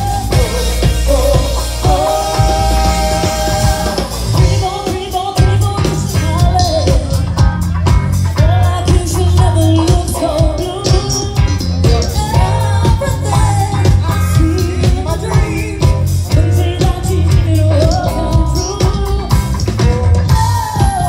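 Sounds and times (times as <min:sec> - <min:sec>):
woman singing: 0:00.0 - 0:07.7, 0:08.4 - 0:21.0
live pop-funk band: 0:00.0 - 0:21.0.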